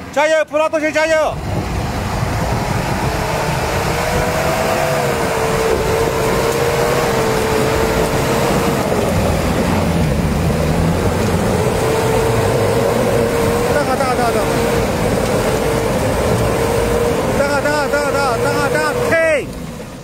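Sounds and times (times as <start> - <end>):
engine running hard: 0.0 - 20.0.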